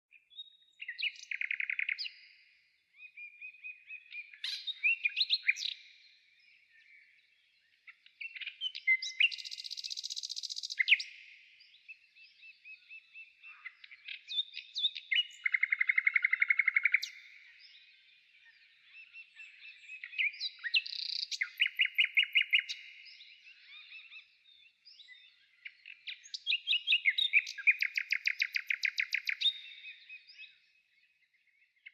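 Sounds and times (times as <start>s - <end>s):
quiet bird chirps: 0.0s - 31.9s
songbird song phrases: 0.0s - 31.9s.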